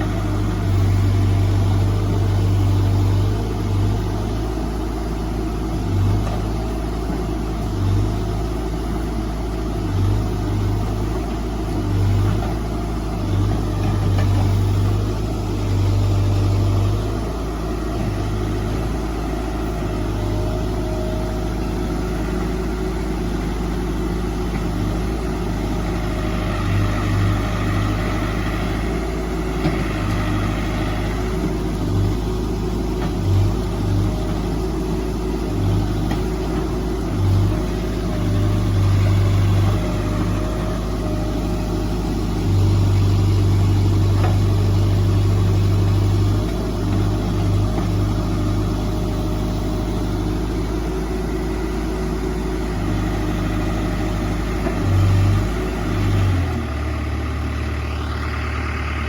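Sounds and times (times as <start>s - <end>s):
diesel engine of earthmoving machine: 0.0s - 59.0s.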